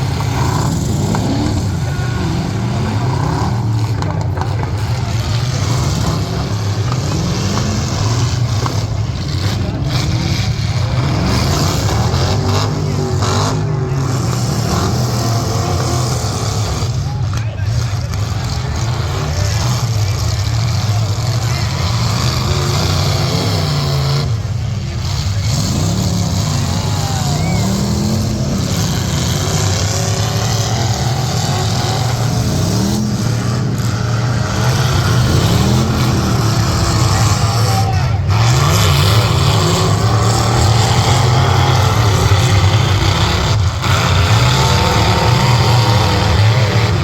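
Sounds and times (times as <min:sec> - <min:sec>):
truck engines running loudly: 0:00.0 - 0:47.0.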